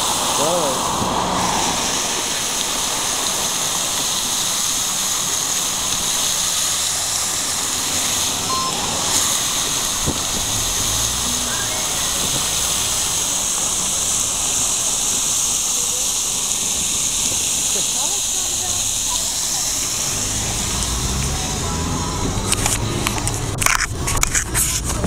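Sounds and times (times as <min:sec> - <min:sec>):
spray spattering on pavement: 0:00.0 - 0:25.0
water jetting into the air: 0:00.0 - 0:25.0.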